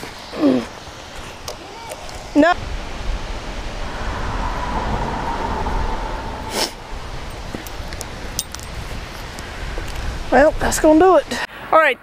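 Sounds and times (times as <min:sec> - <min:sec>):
wind buffeting microphone: 0:00.6 - 0:11.4.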